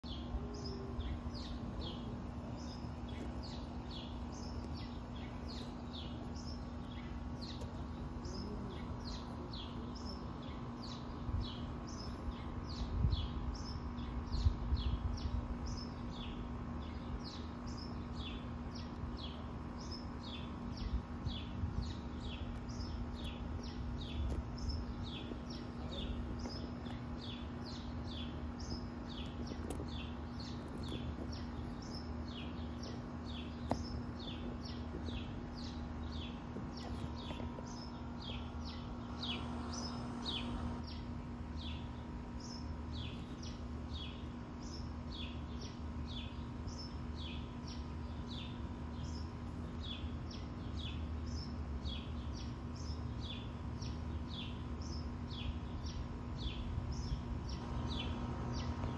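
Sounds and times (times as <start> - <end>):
low hum: 0.0 - 52.2
small birds chirping: 0.0 - 58.9.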